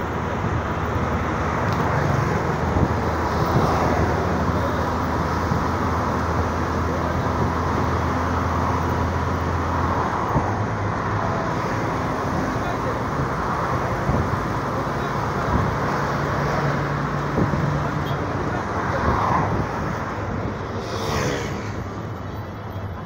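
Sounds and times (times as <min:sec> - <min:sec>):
passing cars: 0:00.0 - 0:23.0
tyres rushing on road: 0:00.0 - 0:23.0
vehicle engine drone: 0:00.0 - 0:23.0.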